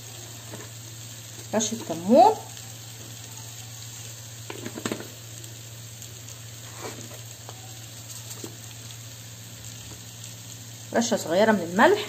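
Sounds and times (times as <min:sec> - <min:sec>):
crackles of frying: 0:00.0 - 0:12.0
food sizzling in a pan: 0:00.0 - 0:12.0.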